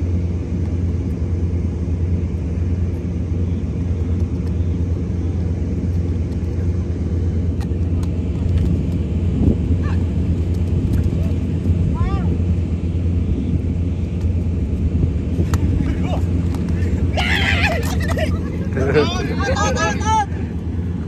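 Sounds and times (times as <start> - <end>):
heavy machinery droning hum: 0.0 - 21.0.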